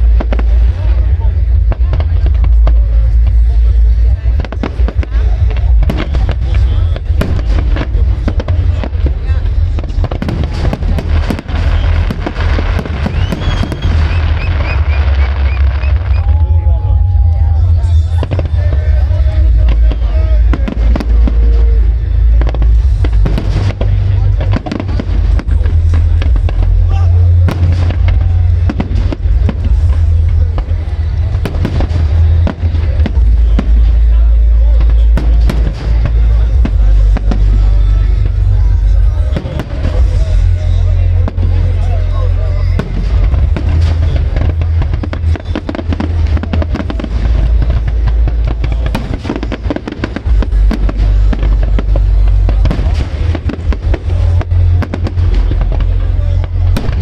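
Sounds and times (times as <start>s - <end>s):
deep rumble of booms: 0.0s - 57.0s
fireworks bangs and crackles: 0.0s - 57.0s
music with heavy bass: 0.0s - 57.0s.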